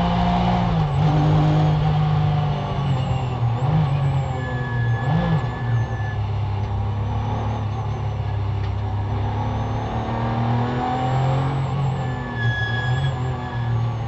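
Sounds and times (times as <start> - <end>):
race car engine under throttle: 0.0 - 14.0.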